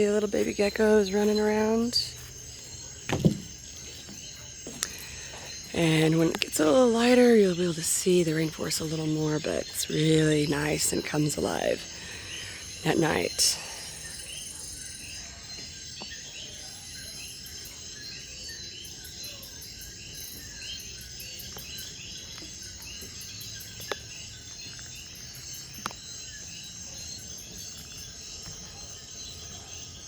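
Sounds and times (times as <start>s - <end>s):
insect trill: 0.0s - 30.0s.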